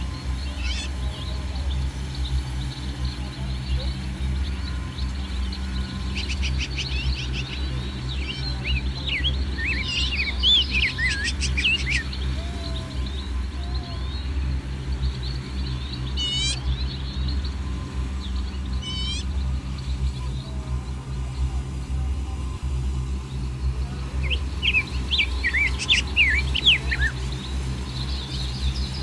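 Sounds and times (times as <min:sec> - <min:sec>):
bird trills: 0:00.0 - 0:21.6, 0:23.3 - 0:29.0
small birds chirping: 0:00.0 - 0:29.0.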